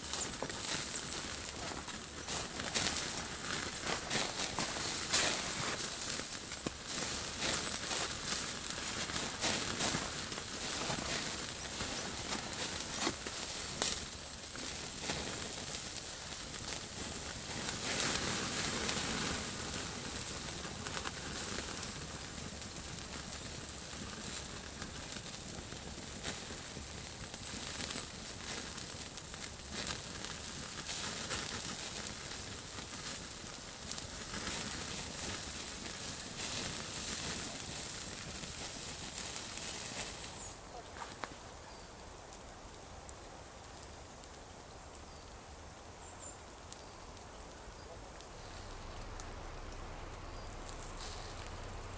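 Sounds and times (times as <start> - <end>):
campfire crackling and snapping: 0.0 - 51.9
rustling of dry leaves: 0.0 - 51.9.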